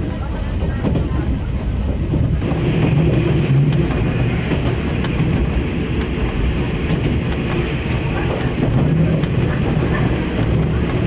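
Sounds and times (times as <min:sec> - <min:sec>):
train engine drone: 0:00.0 - 0:11.0
wheels rumbling on rails: 0:00.0 - 0:11.0.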